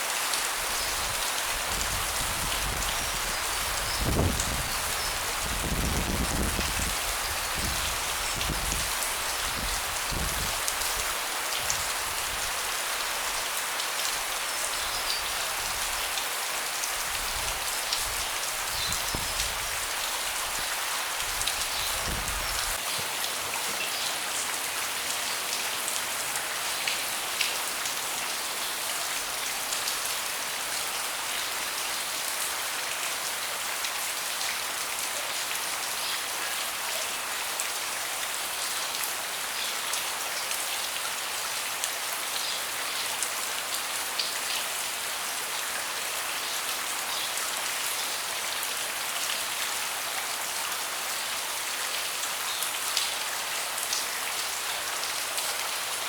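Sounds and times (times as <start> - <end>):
rain on a deck: 0.0 - 56.0.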